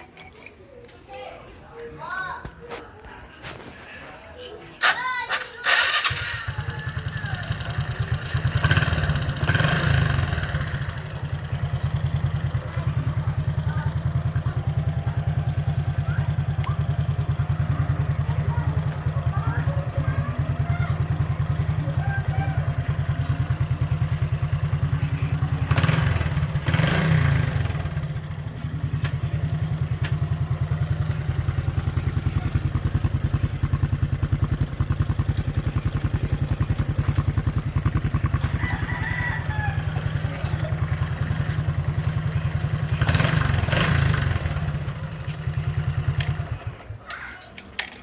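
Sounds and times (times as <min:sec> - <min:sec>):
motorcycle engine idling: 0:05.7 - 0:47.3.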